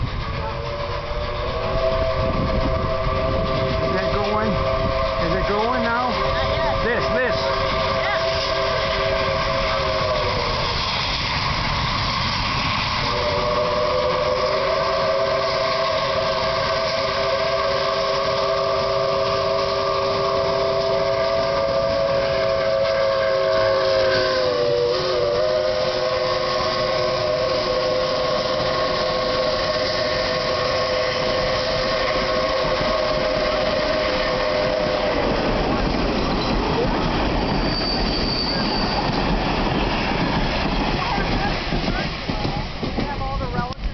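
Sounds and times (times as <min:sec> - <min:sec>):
steam locomotive whistle: 0:00.0 - 0:42.2
train running noise: 0:00.0 - 0:43.9.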